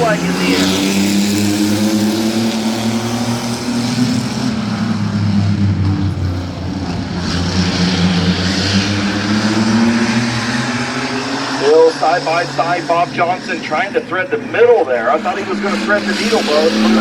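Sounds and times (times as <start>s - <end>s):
racing truck engines at full throttle: 0.0s - 17.0s.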